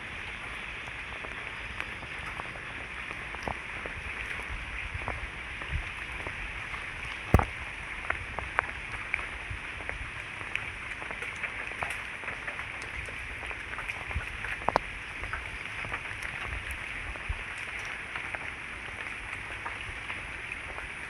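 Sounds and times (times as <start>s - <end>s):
raindrops pattering: 0.0s - 21.0s.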